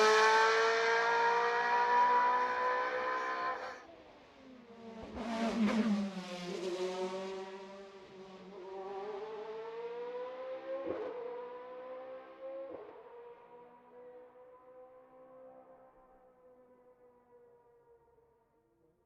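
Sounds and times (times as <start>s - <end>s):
race car engine at full throttle: 0.0s - 15.6s.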